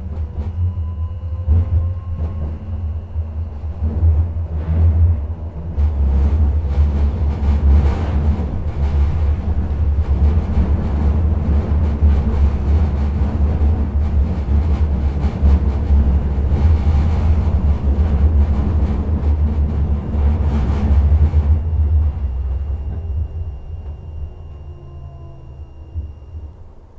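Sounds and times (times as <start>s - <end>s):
tram wheels rumbling on rail: 0.0s - 26.9s.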